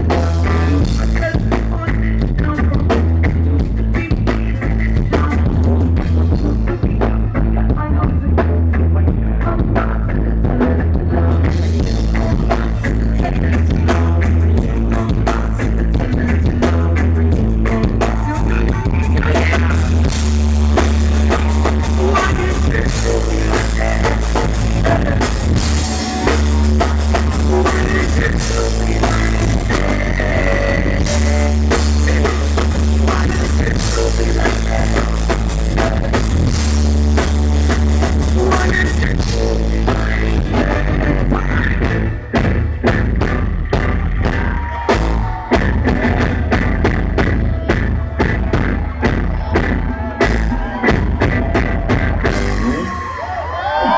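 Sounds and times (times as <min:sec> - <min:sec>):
drum kit: 0:00.0 - 0:53.9
heavy bass line: 0:00.0 - 0:53.9
live rock band playing: 0:00.0 - 0:53.9.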